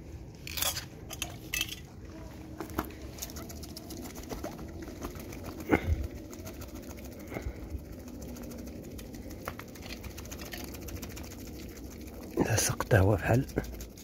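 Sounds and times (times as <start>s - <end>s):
cats eating wet food: 1.4s - 14.0s.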